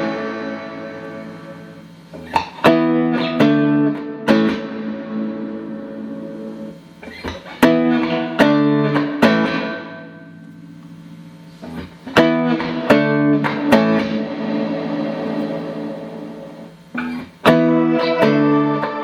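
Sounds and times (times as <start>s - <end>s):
electric guitar chords with reverb: 0.0s - 19.0s.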